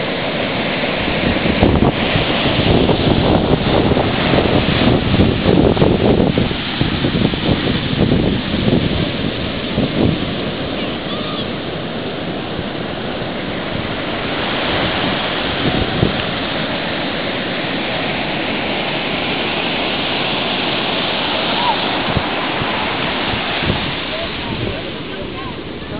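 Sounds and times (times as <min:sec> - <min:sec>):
ocean surf breaking: 0:00.0 - 0:25.9
wind buffeting microphone: 0:00.9 - 0:25.9.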